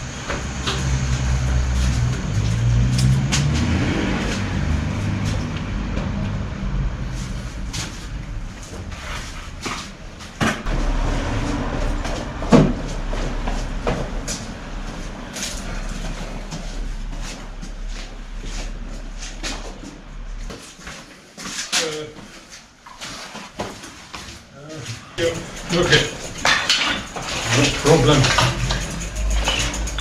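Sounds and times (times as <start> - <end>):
low engine rumble: 0.0 - 20.5, 25.0 - 30.0.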